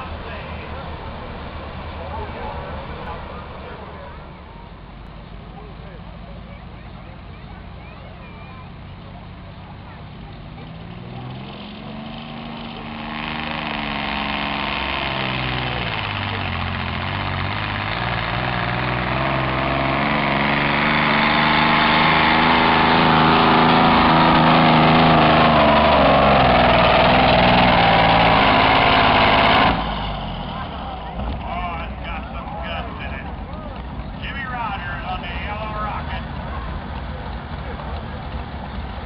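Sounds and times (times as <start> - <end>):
tractor engine running hard: 0.0 - 39.0.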